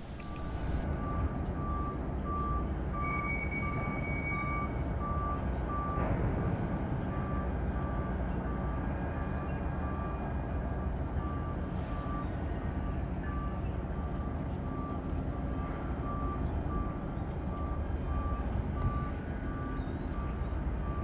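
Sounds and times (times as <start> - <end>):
freight train rumble: 0.0 - 21.0.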